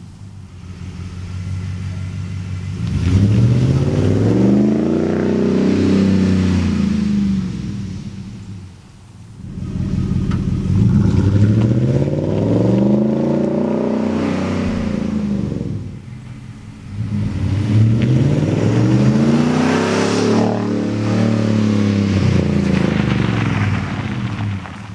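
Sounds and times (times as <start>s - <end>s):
car engine revving: 0.0s - 8.8s, 9.4s - 24.9s.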